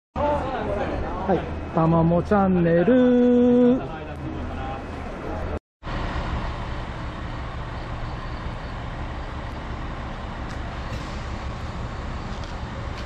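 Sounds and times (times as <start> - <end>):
outdoor background rumble and hiss: 0.2 - 13.0.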